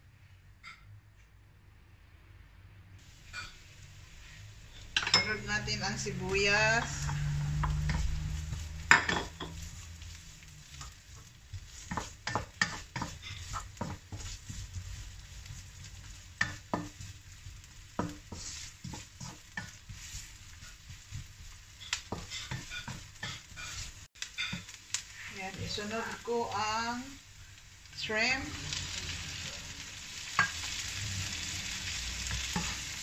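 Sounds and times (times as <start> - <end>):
onion and garlic sizzling in oil: 3.0 - 33.0
wooden spatula scraping pan: 4.2 - 26.4, 28.0 - 33.0.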